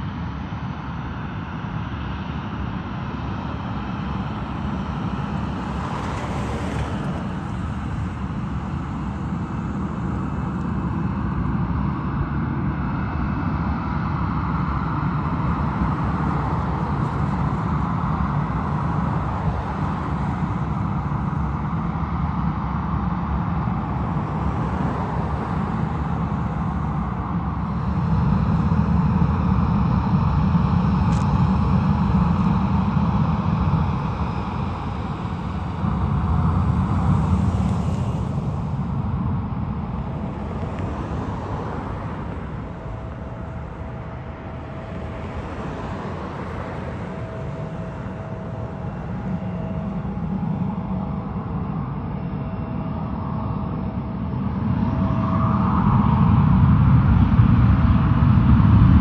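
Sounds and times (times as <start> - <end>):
jet engines droning: 0.0 - 59.0.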